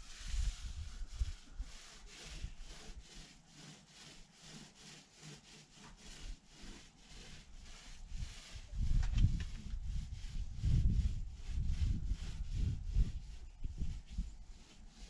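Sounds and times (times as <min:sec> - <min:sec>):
brush scrubbing primer on hull: 0:00.0 - 0:15.0.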